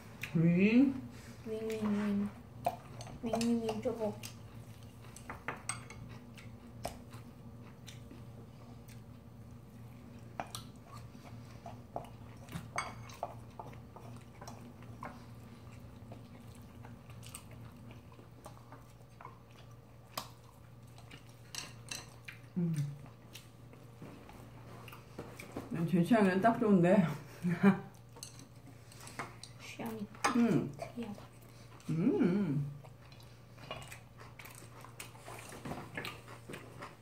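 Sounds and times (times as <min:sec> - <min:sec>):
soft chewing: 0:00.0 - 0:26.5, 0:27.2 - 0:37.0
low steady hum: 0:00.0 - 0:37.0.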